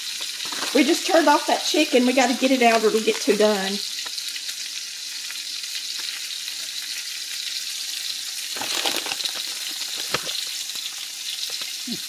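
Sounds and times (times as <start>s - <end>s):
potatoes sizzling in a skillet: 0.0s - 12.0s.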